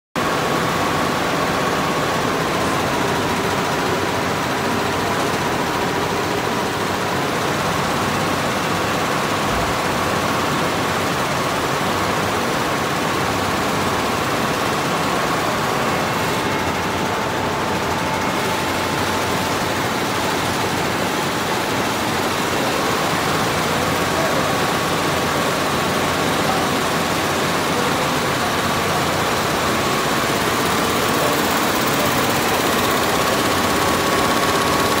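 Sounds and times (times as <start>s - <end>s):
embroidery machine running: 0.2s - 35.0s.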